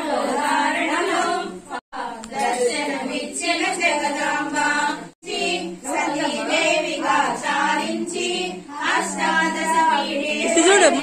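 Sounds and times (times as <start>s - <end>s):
women singing a devotional song: 0.0s - 11.0s.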